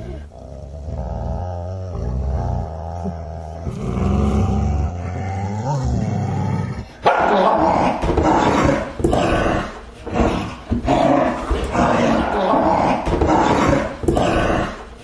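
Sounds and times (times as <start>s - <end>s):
dog growling: 0.0s - 15.0s
dog snarling and barking: 0.7s - 15.0s.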